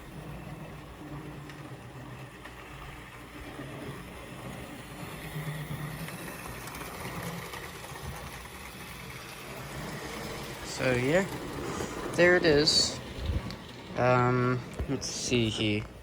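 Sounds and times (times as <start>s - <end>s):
electric motor humming: 0.0s - 16.0s
model train wheels on rails: 0.0s - 16.0s.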